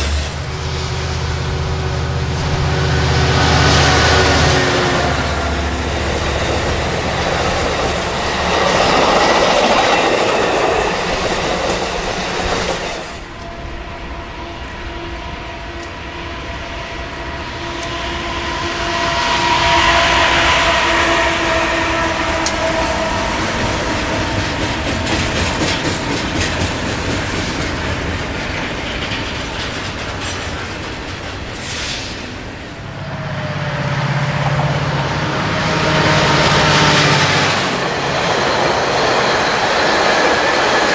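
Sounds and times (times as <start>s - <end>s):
steady train tones: 0.0s - 40.9s
train rumbling past: 0.0s - 40.9s.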